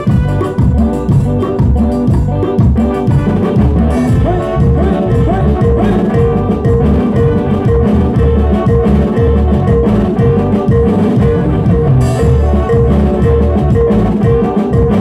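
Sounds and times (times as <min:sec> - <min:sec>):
band playing latin dance music: 0:00.0 - 0:15.0
pulsing keyboard note: 0:00.0 - 0:15.0.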